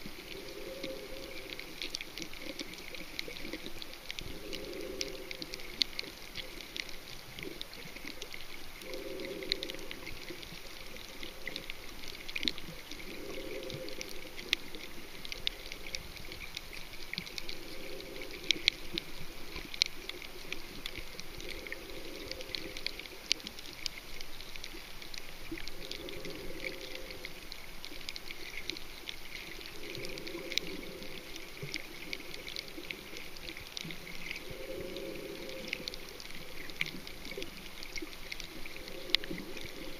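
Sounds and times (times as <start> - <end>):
muffled rush of bubbles: 0.0 - 39.9.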